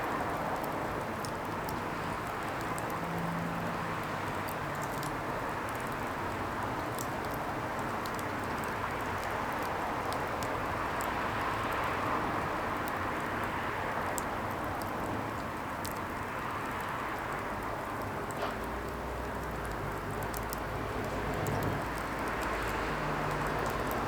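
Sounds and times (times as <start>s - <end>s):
fire crackles popping: 0.1s - 24.0s.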